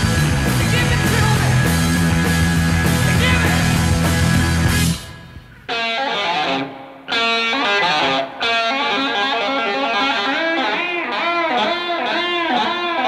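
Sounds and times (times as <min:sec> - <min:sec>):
guitar instrumental music: 0:00.0 - 0:13.0.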